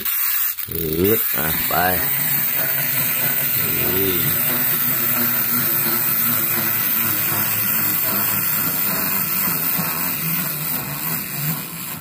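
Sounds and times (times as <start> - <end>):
wind-up toy whirring: 0.0 - 12.0.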